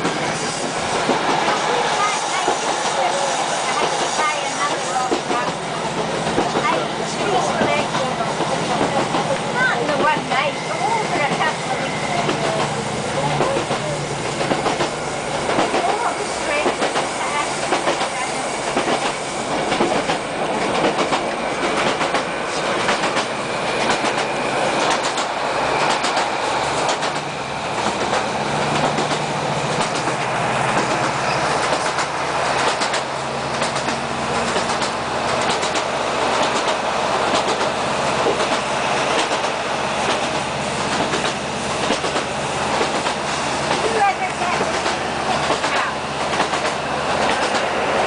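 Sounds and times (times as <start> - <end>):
train rolling rumble: 0.0 - 48.0
train wheels clicking over rail joints: 0.0 - 48.0.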